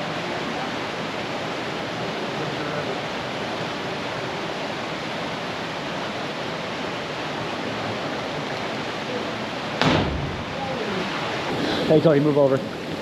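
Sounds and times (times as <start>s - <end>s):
waterfall pouring into pool: 0.0s - 13.0s.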